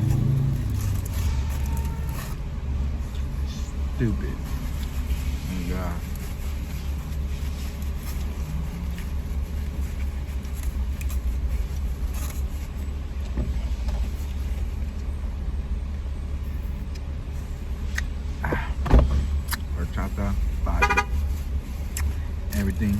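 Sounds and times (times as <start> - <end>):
motor vehicle rumble: 0.0 - 22.9.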